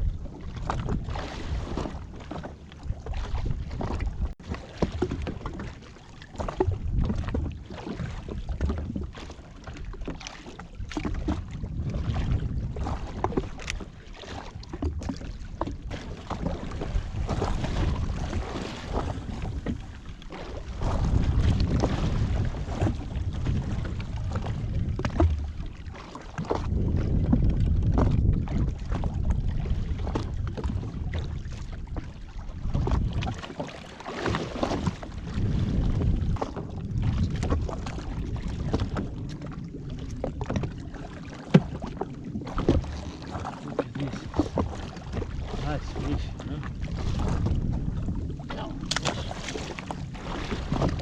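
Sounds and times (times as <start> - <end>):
wind buffeting microphone: 0.0 - 9.2, 9.8 - 33.6, 34.2 - 51.0
water sloshing against hull: 0.0 - 51.0.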